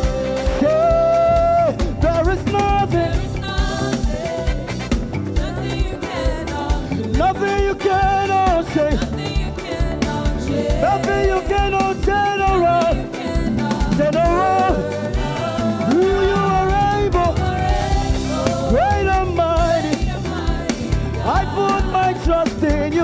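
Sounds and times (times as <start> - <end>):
live gospel band: 0.0 - 23.0.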